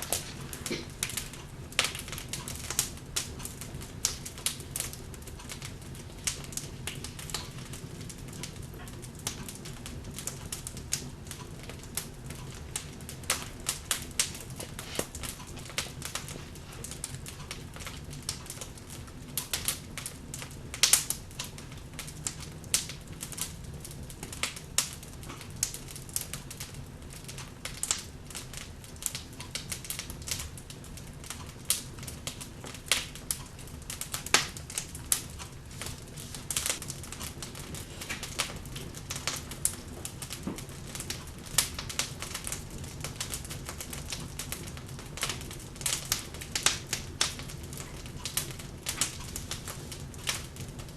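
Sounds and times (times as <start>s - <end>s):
log fire crackling and popping: 0.0s - 50.9s
low rumble of flames: 0.0s - 50.9s.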